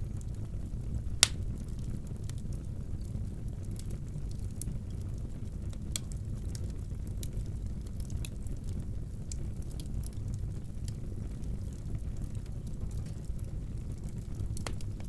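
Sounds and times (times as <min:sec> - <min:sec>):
loud sharp crack of fire: 0:00.0 - 0:02.6, 0:03.2 - 0:15.0
fire crackling: 0:00.0 - 0:15.0
fire rumbling in a fireplace: 0:00.0 - 0:15.0.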